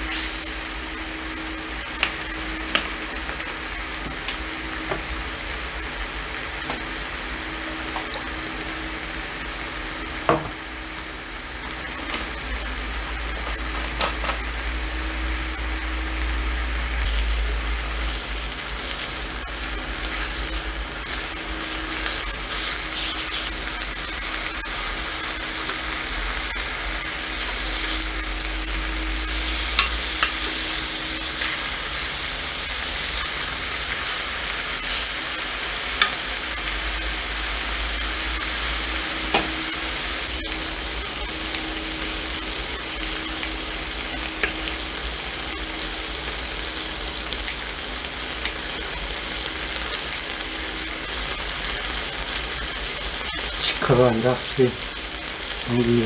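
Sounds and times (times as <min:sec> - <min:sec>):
meat sizzling in hot fat: 0:00.0 - 0:56.0.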